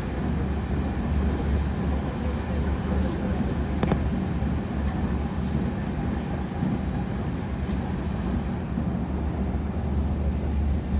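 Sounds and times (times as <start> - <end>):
train carriage rumble: 0.0 - 10.9.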